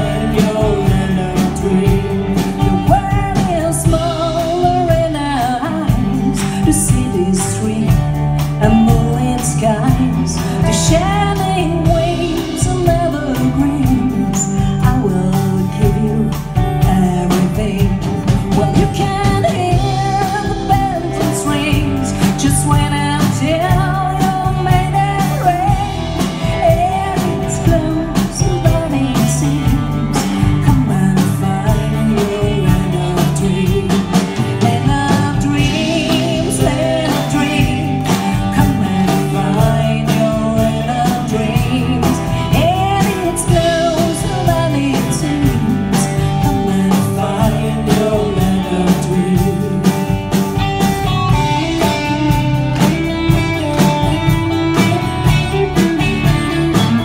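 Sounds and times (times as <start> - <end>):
country band playing: 0.0 - 57.0
woman singing: 0.0 - 57.0.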